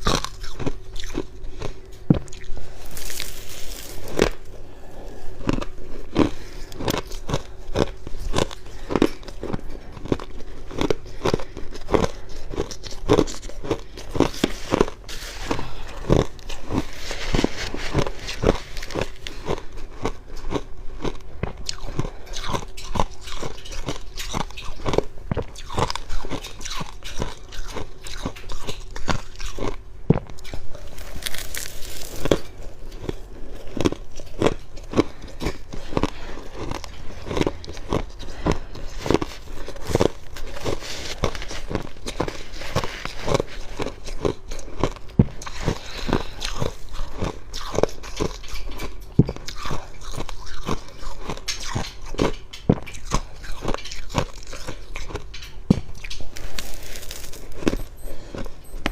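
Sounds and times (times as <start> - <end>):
faint steady hum: 0.0 - 58.9
person chewing crunchy frost: 0.0 - 58.9.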